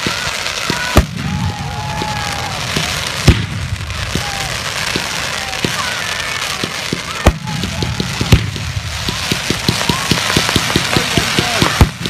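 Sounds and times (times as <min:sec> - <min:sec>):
firework bang: 0:00.0 - 0:12.0
firework launches and distant bursts: 0:00.0 - 0:12.0.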